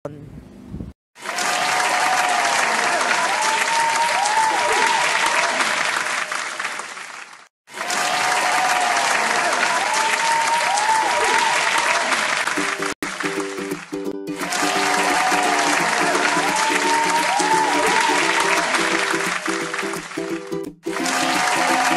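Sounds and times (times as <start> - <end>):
crowd applause and cheering: 1.2 - 21.9.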